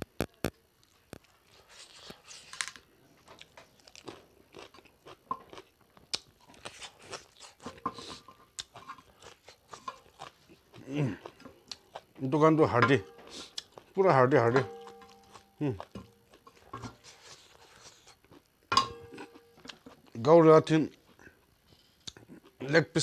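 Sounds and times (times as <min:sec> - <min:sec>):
person chewing food: 0:00.0 - 0:20.2, 0:20.9 - 0:22.6.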